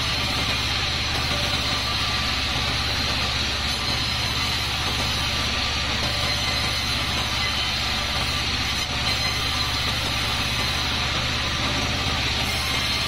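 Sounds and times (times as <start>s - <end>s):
bandsaw sawing wood: 0.0s - 13.0s.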